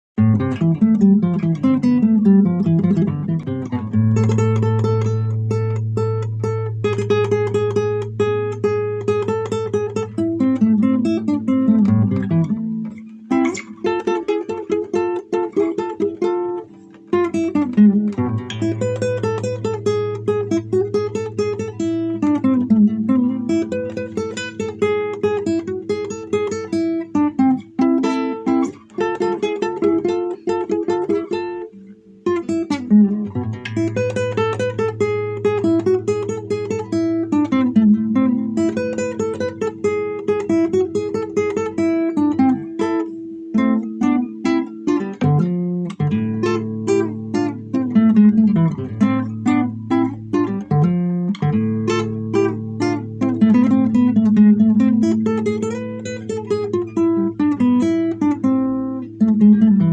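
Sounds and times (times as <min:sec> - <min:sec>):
solo acoustic guitar: 0:00.2 - 0:59.9.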